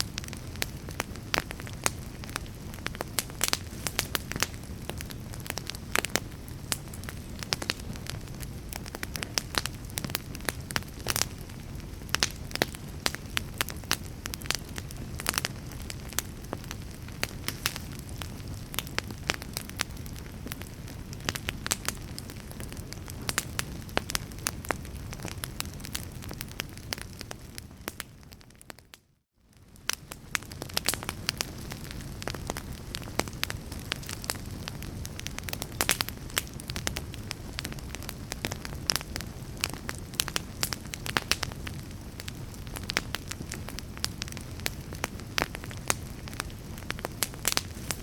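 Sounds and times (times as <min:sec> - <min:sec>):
fire crackling and popping: 0:00.0 - 0:48.0
low rumble of burning: 0:00.0 - 0:48.0.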